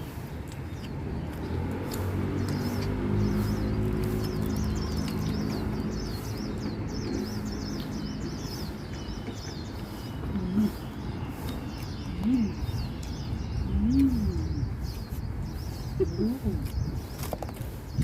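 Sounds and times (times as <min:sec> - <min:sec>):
low outdoor background hum: 0:00.0 - 0:18.0
small birds chirping: 0:00.0 - 0:18.0.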